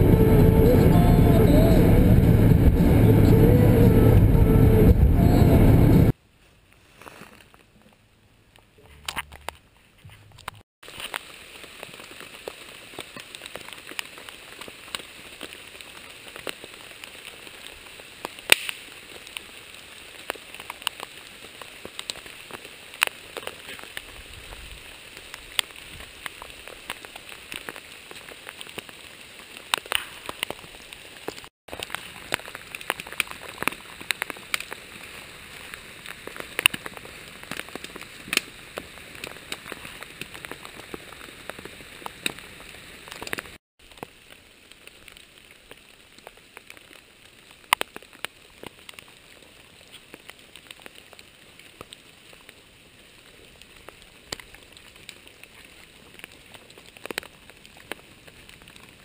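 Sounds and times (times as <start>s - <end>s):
campfire crackling and popping: 10.4s - 59.0s.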